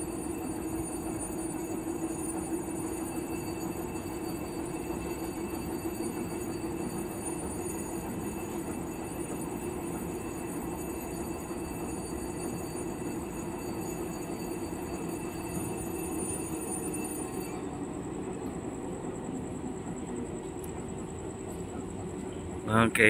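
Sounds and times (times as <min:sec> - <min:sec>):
faint high steady tones: 0:00.0 - 0:23.0.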